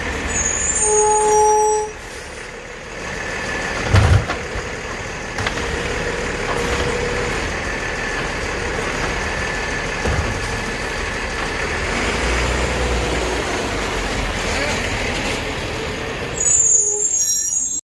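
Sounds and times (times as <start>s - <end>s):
garbage truck engine running: 0.0s - 0.8s, 1.8s - 17.6s.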